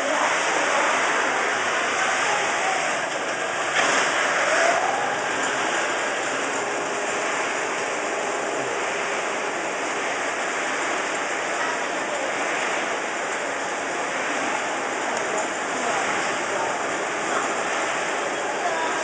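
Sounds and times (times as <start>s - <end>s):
machinery hissing: 0.0s - 19.0s.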